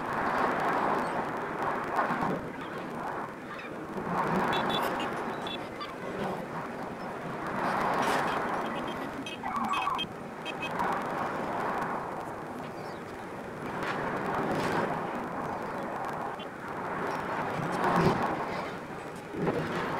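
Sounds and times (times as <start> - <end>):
outdoor rushing ambience: 0.0 - 19.9.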